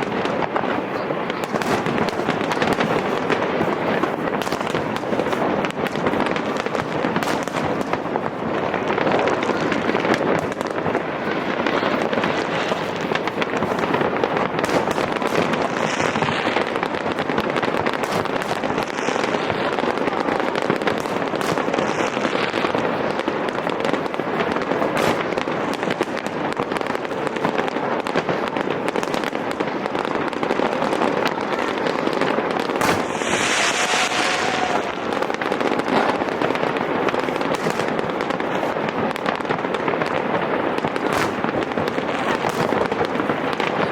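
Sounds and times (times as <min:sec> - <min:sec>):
fireworks hissing bursts: 0:00.0 - 0:27.1, 0:30.1 - 0:43.9
fireworks popping and crackling: 0:00.0 - 0:43.9
fireworks sharp reports: 0:00.0 - 0:43.9.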